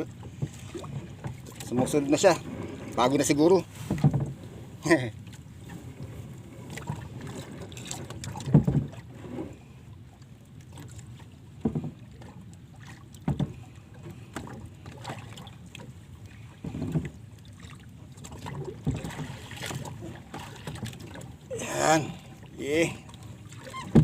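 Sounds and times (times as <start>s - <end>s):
water noise: 0.0s - 24.0s
wind: 0.0s - 24.0s.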